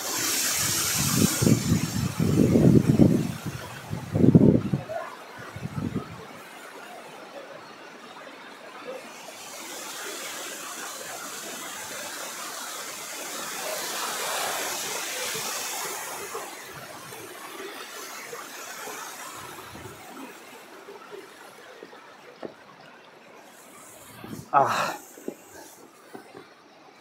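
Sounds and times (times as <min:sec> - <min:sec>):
water rushing and splashing: 0:00.0 - 0:27.0.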